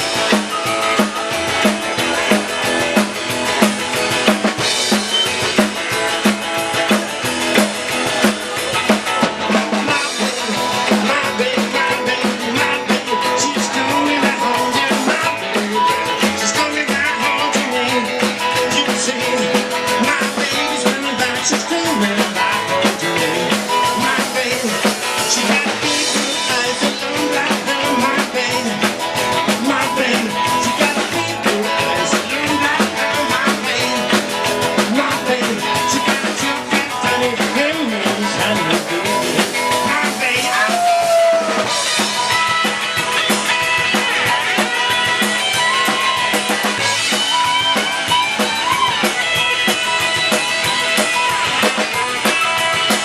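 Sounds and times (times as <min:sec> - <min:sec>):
drum kit: 0:00.0 - 0:53.0
rock and roll band playing: 0:00.0 - 0:53.0.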